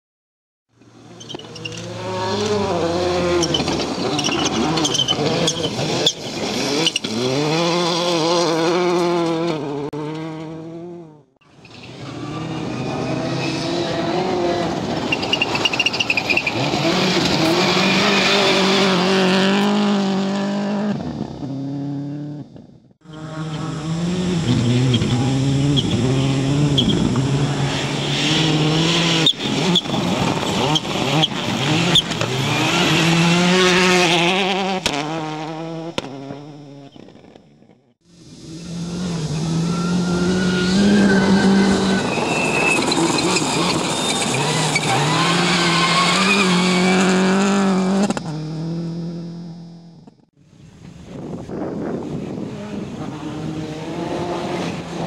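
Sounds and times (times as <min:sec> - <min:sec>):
rally car engine revving: 0:00.9 - 0:37.4, 0:38.2 - 0:50.3, 0:52.0 - 0:55.0.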